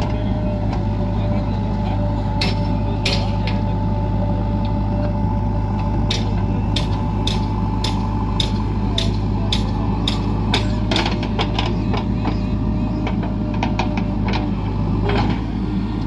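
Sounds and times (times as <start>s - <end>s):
diesel engine droning: 0.0s - 16.0s
steady whine: 0.0s - 16.0s.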